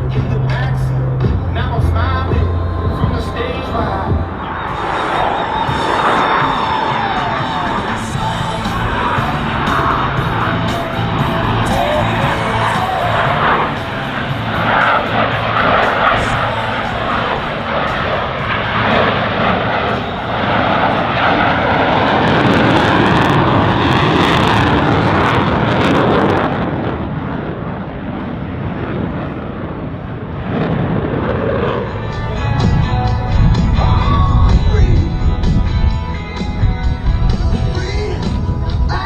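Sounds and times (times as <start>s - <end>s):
jet engines passing overhead: 0.0s - 39.0s.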